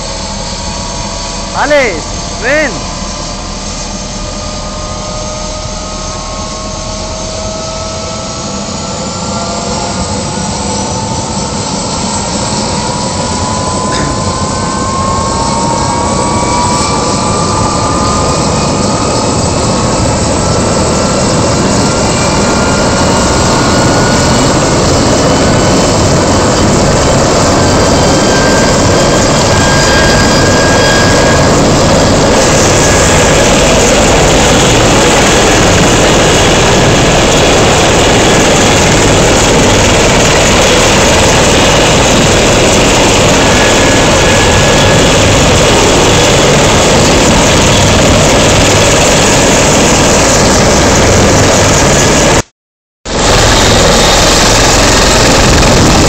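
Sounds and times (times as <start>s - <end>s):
helicopter engines and rotor: 0.0s - 52.5s, 53.1s - 56.0s
turbine whine rising in pitch: 0.0s - 52.5s, 53.1s - 56.0s.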